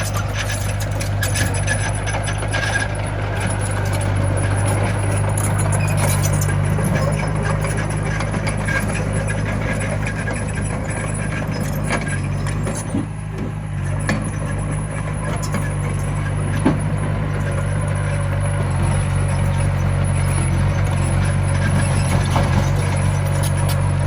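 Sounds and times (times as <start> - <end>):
bulldozer diesel engine running: 0.0 - 24.0
metallic clanks and clicks: 0.0 - 24.0.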